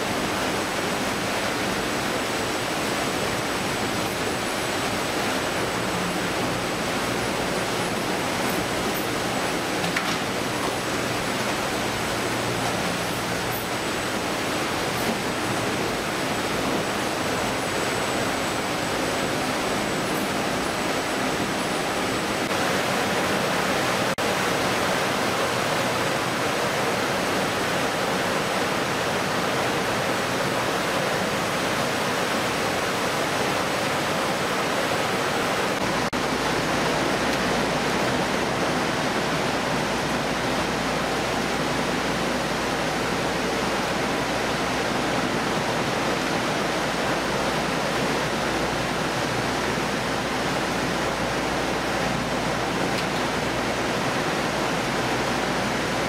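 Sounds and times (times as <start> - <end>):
fish-processing machinery: 0.0 - 56.0
running water: 0.0 - 56.0.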